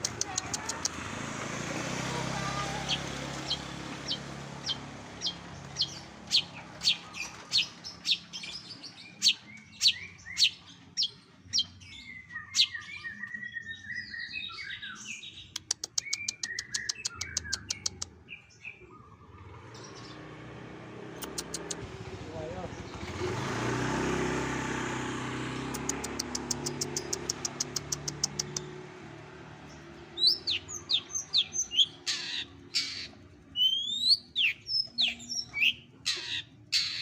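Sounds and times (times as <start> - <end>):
bird warbling and trilling: 2.0 - 20.3, 21.0 - 23.4, 25.4 - 37.0
bird singing sharp chip notes: 2.9 - 23.5, 25.6 - 37.0.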